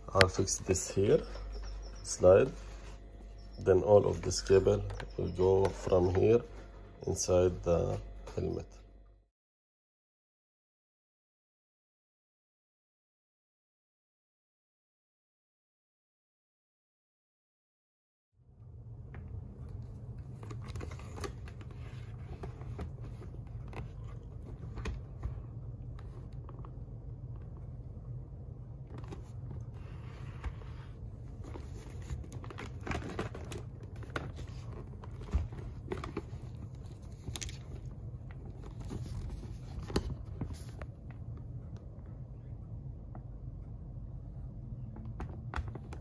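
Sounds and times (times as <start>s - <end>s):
steady low hum: 0.0s - 9.3s, 18.4s - 46.0s.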